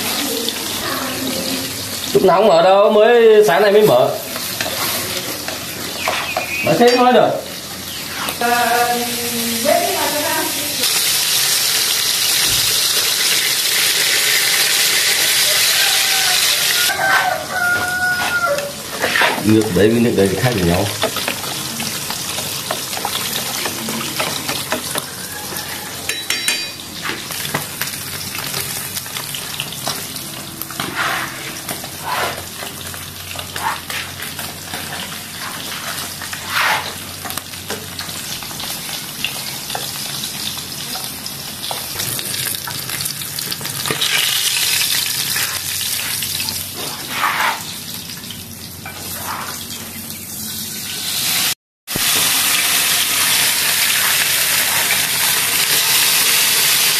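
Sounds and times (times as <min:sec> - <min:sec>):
fish sizzling in hot oil: 0:00.0 - 0:56.9.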